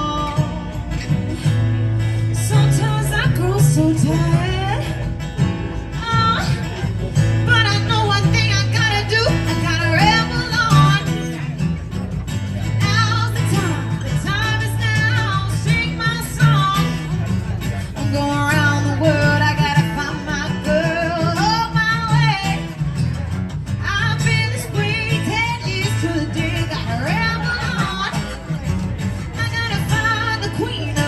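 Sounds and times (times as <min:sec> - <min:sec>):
guitar: 0:00.0 - 0:31.0.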